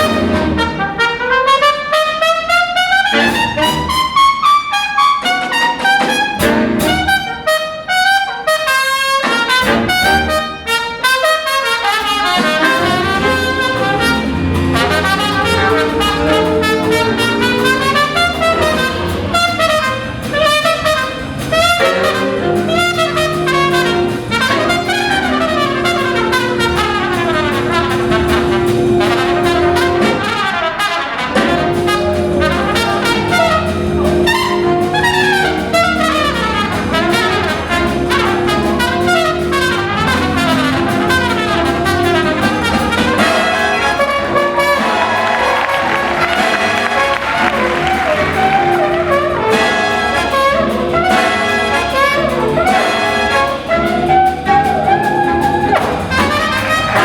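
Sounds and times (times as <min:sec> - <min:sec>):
big band jazz with brass: 0:00.0 - 0:57.0.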